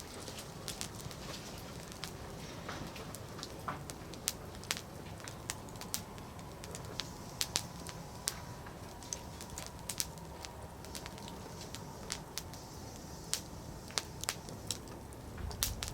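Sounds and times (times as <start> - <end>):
campfire crackling and popping: 0.0 - 15.9
rushing of flame: 0.0 - 15.9.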